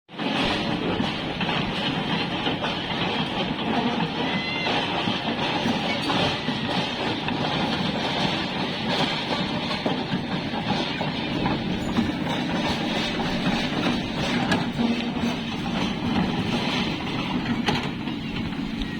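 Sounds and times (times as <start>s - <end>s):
diesel engine running: 0.1s - 18.9s
mechanical clatter: 0.1s - 18.9s.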